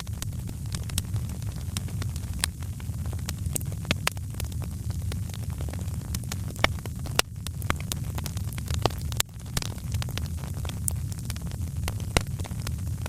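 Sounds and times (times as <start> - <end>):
wood fire crackling in fireplace: 0.0 - 13.0.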